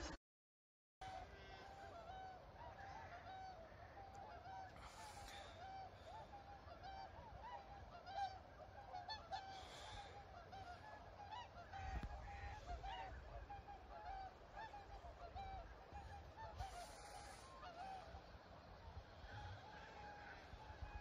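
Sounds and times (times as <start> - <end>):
swans honking: 1.0 - 21.0.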